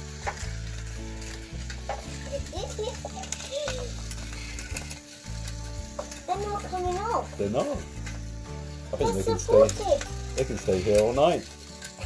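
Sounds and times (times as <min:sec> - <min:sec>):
wheels rattling on wooden track: 0:00.0 - 0:08.3, 0:09.0 - 0:12.0
toy train motor whirring: 0:00.0 - 0:12.0.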